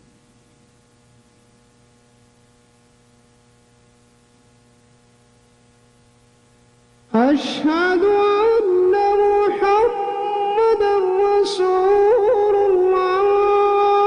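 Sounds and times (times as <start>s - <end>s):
faint electrical mains hum: 0.0s - 14.0s.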